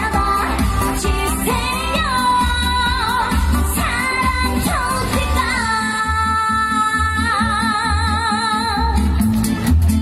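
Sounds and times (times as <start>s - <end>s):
woman singing into a microphone: 0.0s - 9.3s
amplified backing music with beat: 0.0s - 10.0s.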